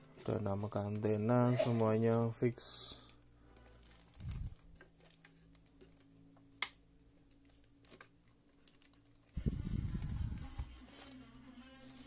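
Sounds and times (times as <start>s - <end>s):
plastic device handling noise: 0.0s - 12.0s.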